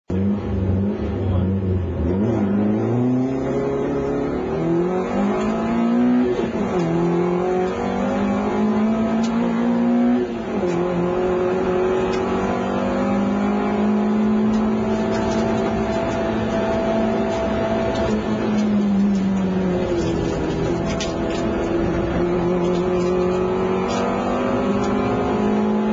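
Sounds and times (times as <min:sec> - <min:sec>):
rally car engine accelerating: 0:00.1 - 0:25.9.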